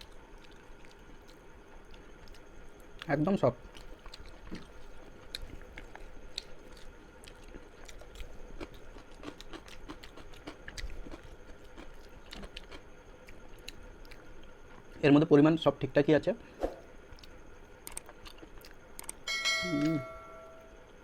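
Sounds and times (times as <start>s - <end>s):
person chewing food: 0.0s - 15.0s, 16.9s - 20.0s.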